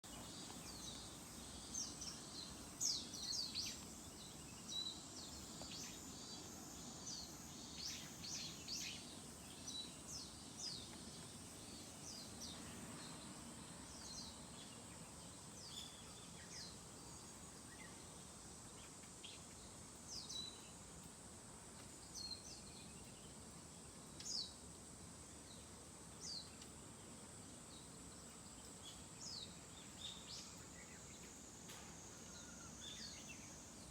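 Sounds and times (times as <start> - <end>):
small birds chirping: 0.0 - 21.2, 21.8 - 24.7, 25.3 - 33.9
steady high hiss: 0.0 - 33.9.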